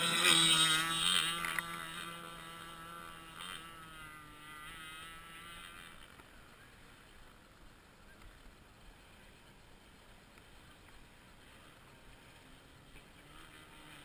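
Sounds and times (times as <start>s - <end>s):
model boat engine whine: 0.0s - 14.0s.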